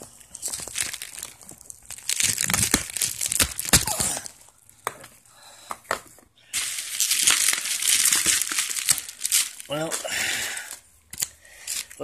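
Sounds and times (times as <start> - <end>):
plastic packaging crinkling and tearing: 0.0 - 4.8, 6.5 - 12.0.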